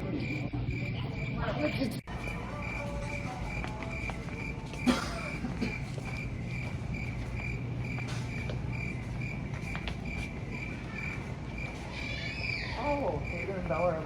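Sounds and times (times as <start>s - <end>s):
crickets chirping: 0.0s - 14.0s
low steady hum: 0.0s - 14.0s.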